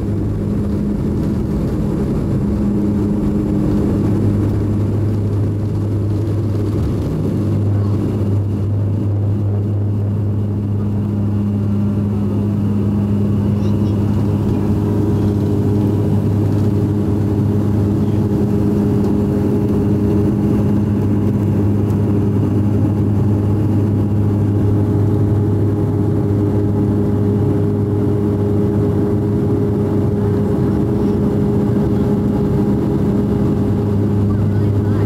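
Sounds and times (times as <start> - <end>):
engine and air noise: 0.0 - 35.0
propeller drone: 0.0 - 35.0.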